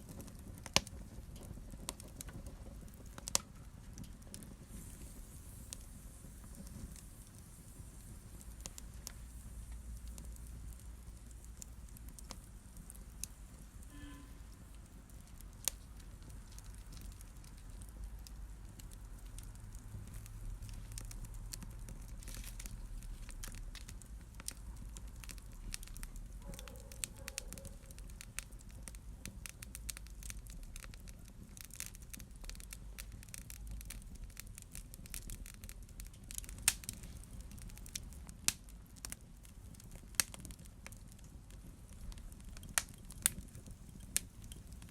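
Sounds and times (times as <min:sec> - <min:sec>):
low rumble of burning fire: 0:00.0 - 0:44.9
wood fire crackling and popping: 0:00.0 - 0:44.9.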